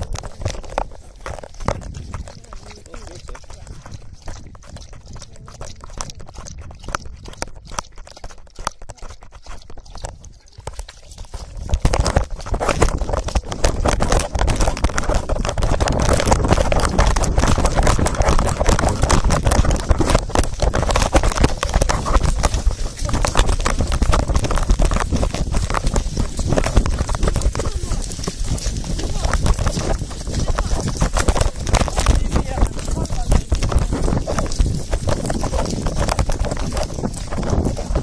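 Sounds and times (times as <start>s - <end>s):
collar rubbing and jostling: 0.0s - 38.0s
light scratching and clicking: 0.0s - 38.0s.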